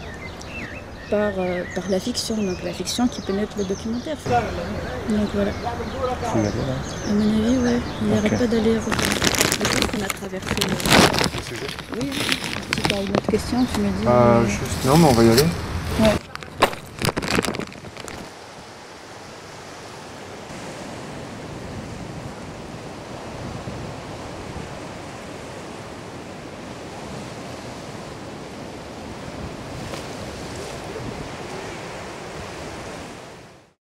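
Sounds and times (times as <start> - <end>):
waves breaking under pier: 0.0 - 33.7.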